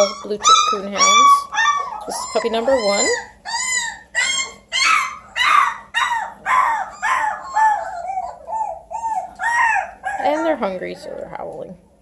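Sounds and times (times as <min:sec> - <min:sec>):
puppies howling: 0:00.0 - 0:10.8.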